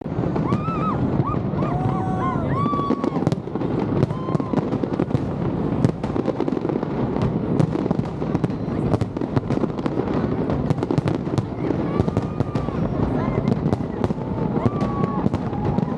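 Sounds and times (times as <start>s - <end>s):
fireworks bangs and crackles: 0.0s - 15.9s.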